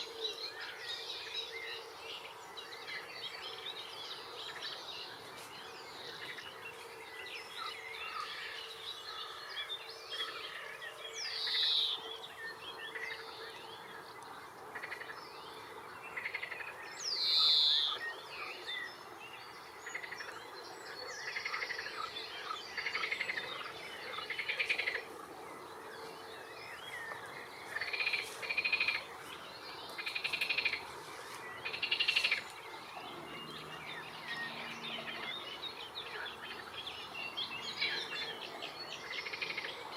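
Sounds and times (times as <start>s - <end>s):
wild birds calling and singing: 0.0s - 39.9s.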